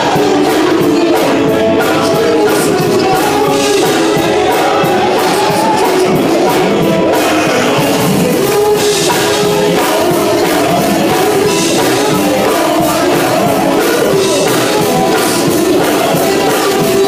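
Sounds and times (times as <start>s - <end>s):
accompanying instruments: 0.0s - 17.0s
male vocal group singing gospel: 0.0s - 17.0s.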